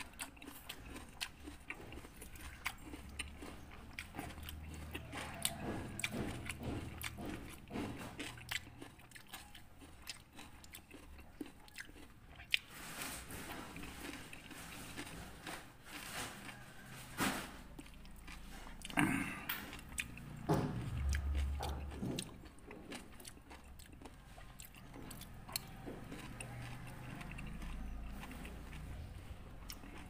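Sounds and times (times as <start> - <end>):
chewing and biting fruit: 0.0 - 30.0.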